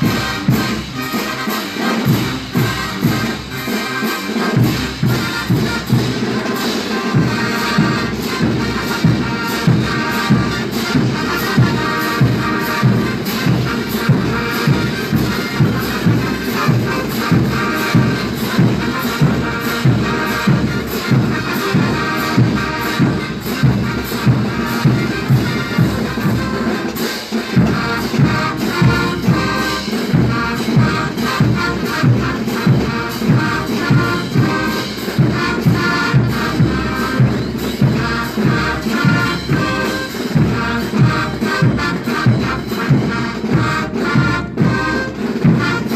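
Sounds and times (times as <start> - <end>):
brass band playing: 0.0 - 45.9.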